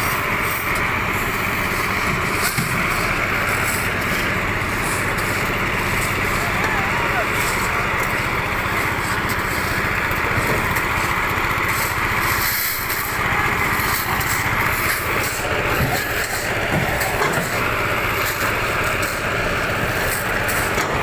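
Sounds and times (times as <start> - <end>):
concrete mixer engine running: 0.0 - 21.0.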